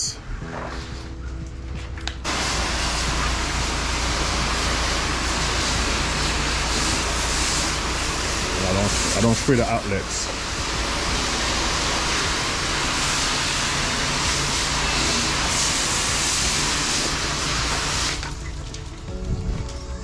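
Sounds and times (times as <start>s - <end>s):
pressure washer spraying: 2.2s - 19.0s.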